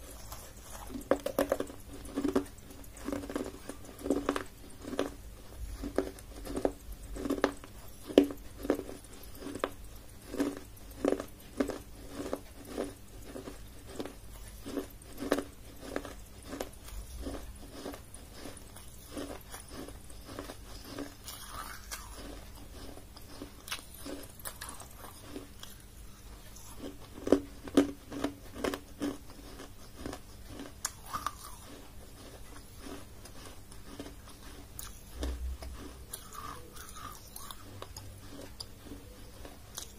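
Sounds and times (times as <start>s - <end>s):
chewing and crunching baked clay: 0.0s - 39.9s.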